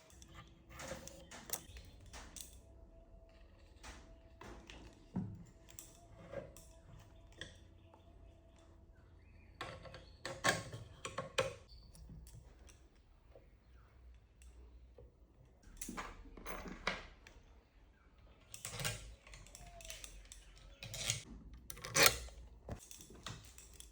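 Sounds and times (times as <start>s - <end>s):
tools and parts clicking and clinking: 0.0s - 8.8s, 9.5s - 13.6s, 14.4s - 17.5s, 18.3s - 23.9s.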